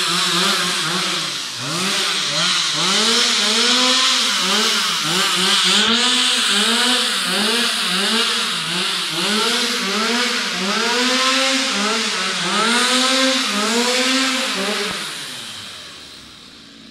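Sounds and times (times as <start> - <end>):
chainsaw engine revving: 0.0 - 16.9.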